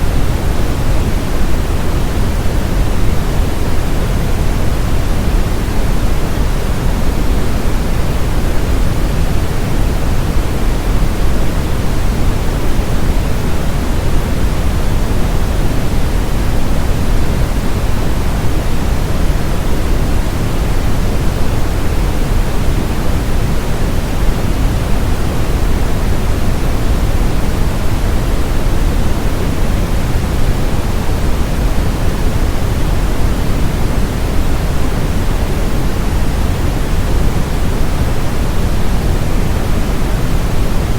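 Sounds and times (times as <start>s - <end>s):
brown noise: 0.0s - 40.9s.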